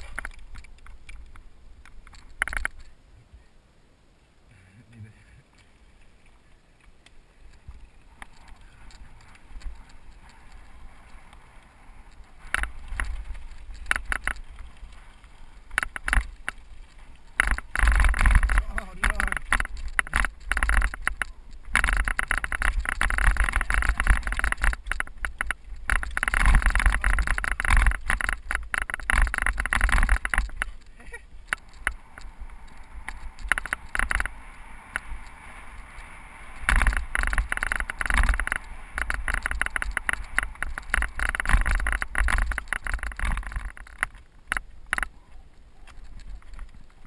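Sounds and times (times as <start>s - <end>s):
bike rattling and clattering: 0.0s - 2.9s, 7.4s - 47.0s
tyre noise: 0.0s - 3.0s, 5.6s - 47.0s
wind rumble on microphone: 7.4s - 47.0s.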